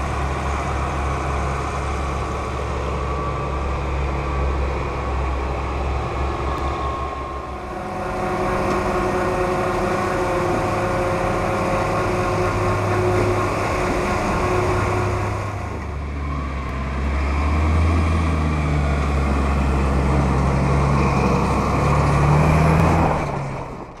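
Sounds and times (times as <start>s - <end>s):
heavy diesel engines under load: 0.0s - 24.0s.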